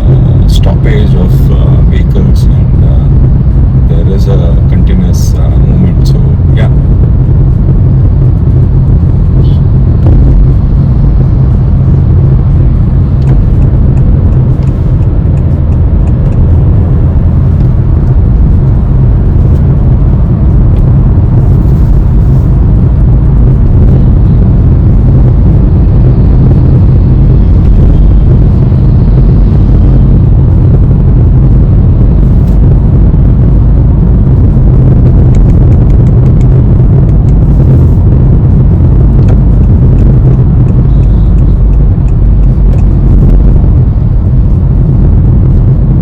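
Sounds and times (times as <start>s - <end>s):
car cabin road rumble: 0.0s - 46.0s.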